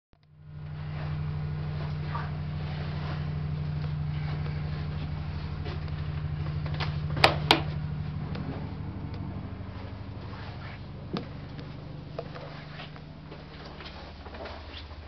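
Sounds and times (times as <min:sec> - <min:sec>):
train carriage rumble and hum: 0:00.3 - 0:15.0.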